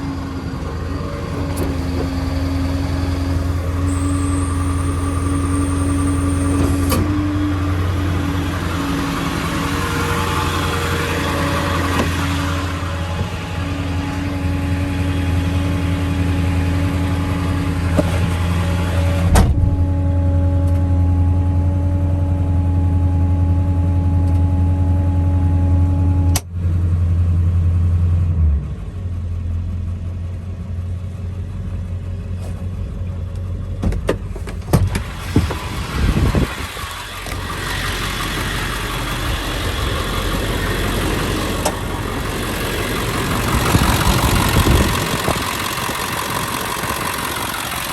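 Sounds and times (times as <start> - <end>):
constant whine: 0.0 - 26.6, 29.1 - 47.9
diesel engine running: 0.0 - 47.9.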